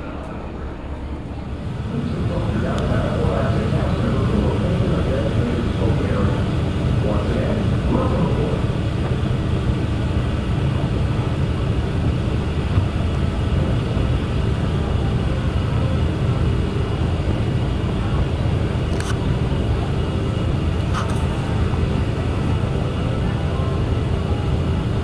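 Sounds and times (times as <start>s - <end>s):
ferry engine rumbling: 0.0s - 25.0s.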